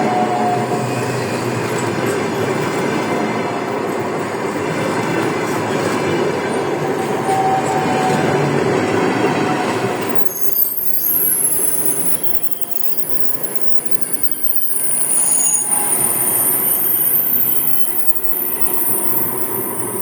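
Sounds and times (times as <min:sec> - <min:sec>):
rumble of train cars: 0:00.0 - 0:20.0
train wheels squealing: 0:00.0 - 0:20.0.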